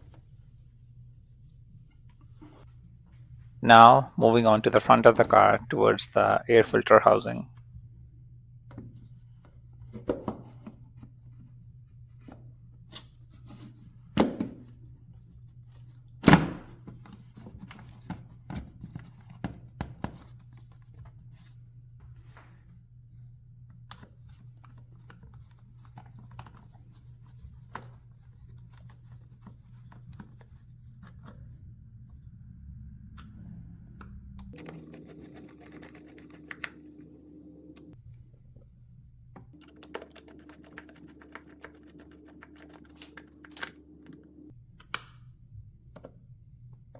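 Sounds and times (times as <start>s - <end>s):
steady low hum: 0.0s - 16.8s, 20.5s - 46.9s.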